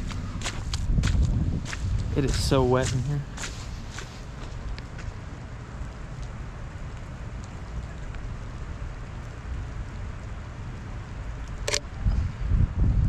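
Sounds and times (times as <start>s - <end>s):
rain and wet snow pattering: 0.0s - 12.0s
wind rumble on microphone: 0.0s - 13.0s.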